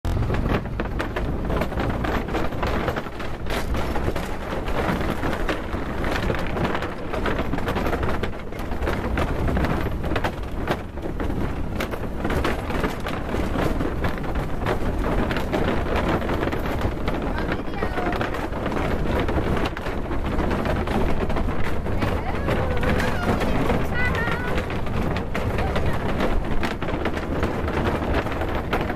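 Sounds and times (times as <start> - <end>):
vehicle rattling over wooden planks: 0.0 - 28.9
wind buffeting microphone: 0.1 - 28.9.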